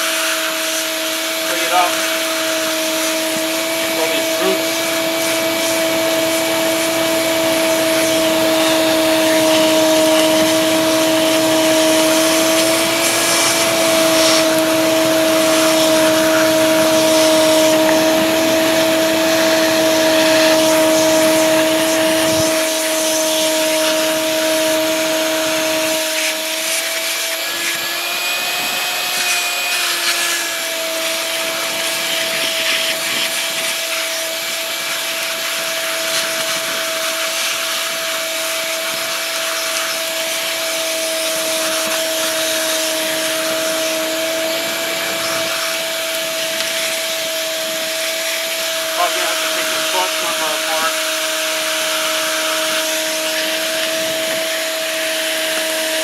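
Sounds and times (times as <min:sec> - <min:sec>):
shop vac whining: 0:00.0 - 0:56.0.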